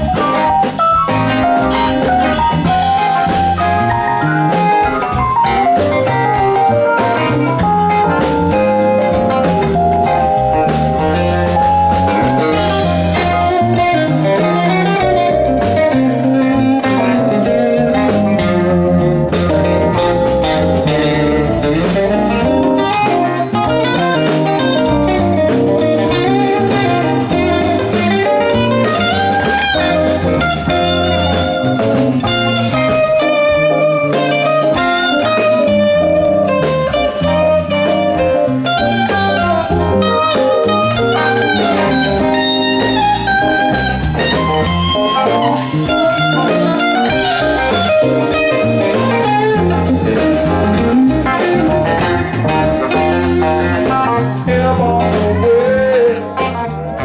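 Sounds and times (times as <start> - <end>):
bass: 0.0 - 57.0
drums: 0.0 - 57.0
electric guitar lead: 0.0 - 57.0
keyboards: 0.0 - 57.0.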